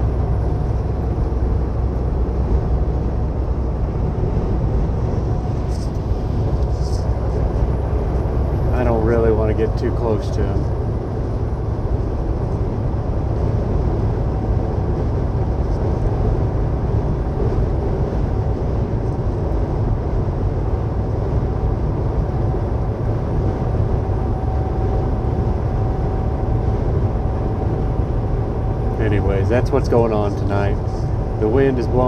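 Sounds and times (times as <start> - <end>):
strong wind: 0.0 - 32.0
truck engine and tyres rumbling: 0.0 - 32.0.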